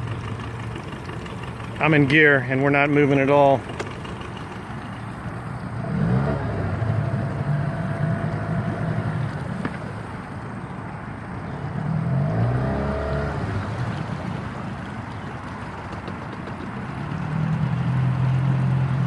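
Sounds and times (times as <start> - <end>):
outboard motor labouring: 0.0 - 19.0.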